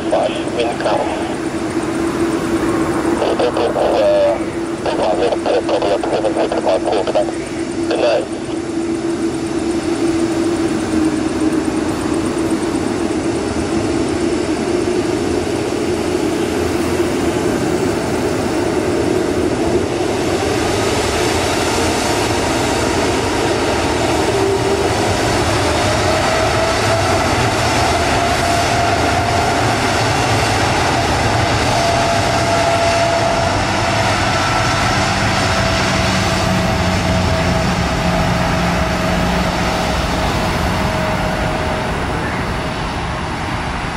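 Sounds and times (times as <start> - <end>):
jet engine whine: 0.0 - 43.9
jet engines roaring: 0.0 - 43.9.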